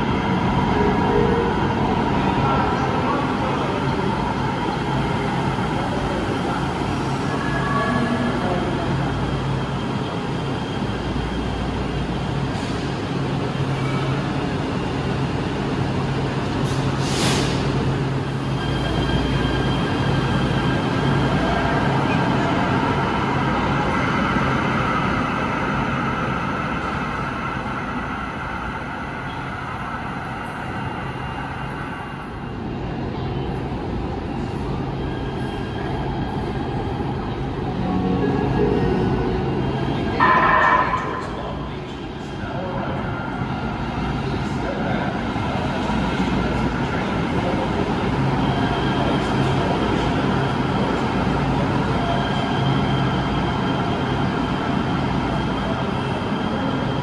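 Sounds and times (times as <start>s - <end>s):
train rumbling in station: 0.0s - 57.0s.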